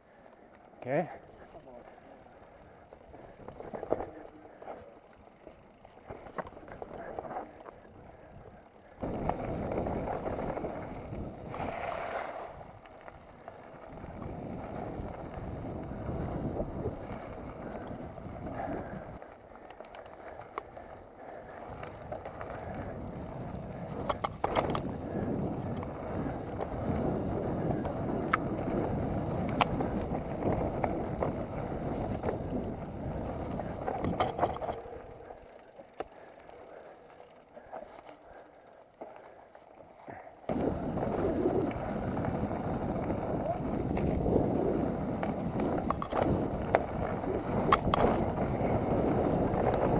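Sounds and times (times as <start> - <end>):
bike tyres rumbling on dirt: 0.0 - 49.9
bike clicking rattles: 0.1 - 11.7, 12.6 - 49.9.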